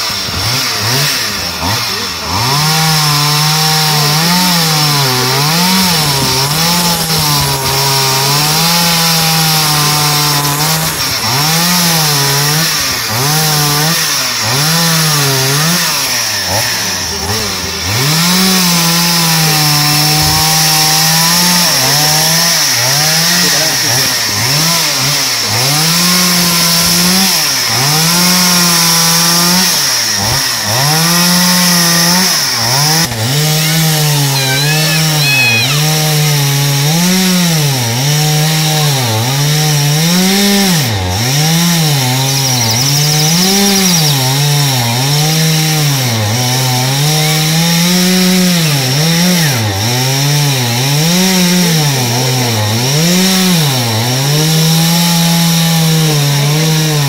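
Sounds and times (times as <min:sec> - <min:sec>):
chainsaw revving cutting wood: 0:00.0 - 0:57.0.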